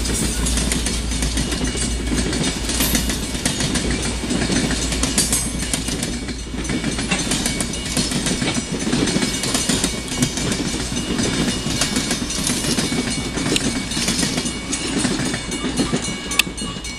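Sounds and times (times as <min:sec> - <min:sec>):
train wheels rumbling on rails: 0:00.0 - 0:16.9
wheels clicking and clacking: 0:00.0 - 0:16.9.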